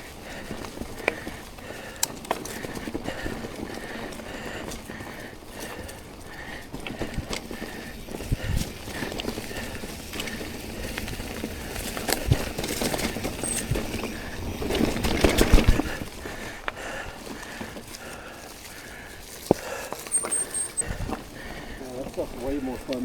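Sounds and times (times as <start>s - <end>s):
bike rattling and knocking: 0.0s - 23.0s
bike tyre noise on dirt: 0.0s - 23.0s.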